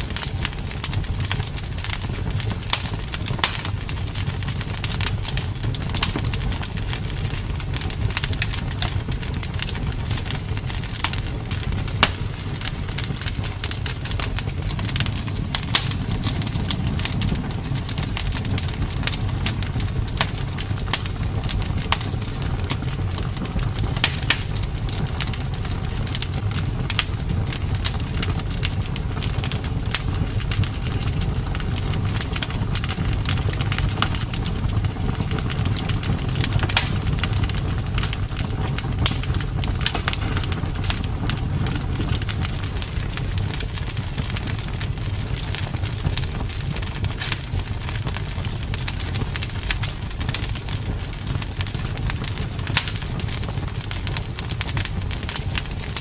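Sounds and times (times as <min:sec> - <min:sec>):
fire low rumble: 0:00.0 - 0:56.0
wood fire crackling and popping: 0:00.0 - 0:56.0.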